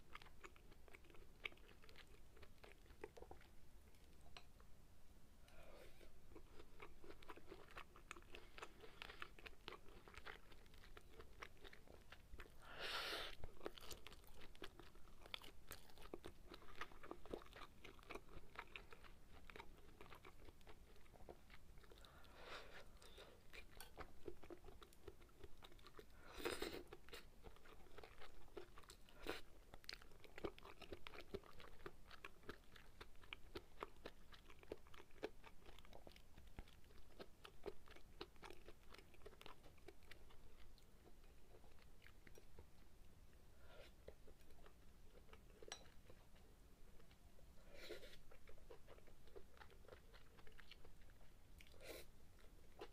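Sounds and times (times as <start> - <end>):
close chewing with mouth clicks: 0.0 - 4.6, 5.5 - 52.9.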